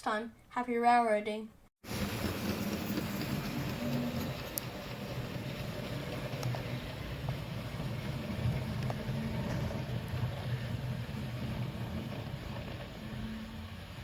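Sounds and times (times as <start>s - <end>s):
train rumbling: 1.8s - 14.0s.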